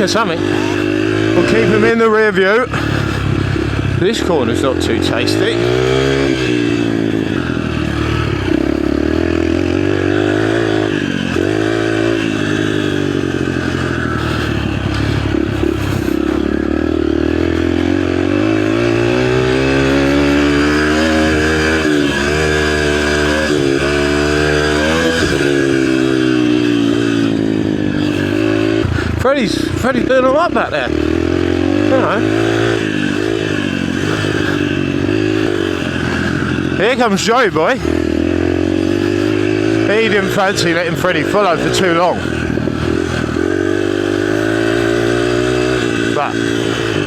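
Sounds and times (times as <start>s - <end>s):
mini bike engine revving: 0.0s - 47.0s.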